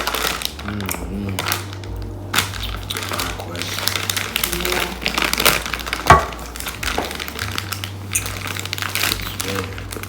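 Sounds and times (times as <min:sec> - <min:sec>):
eating clicks and rustles: 0:00.0 - 0:10.0.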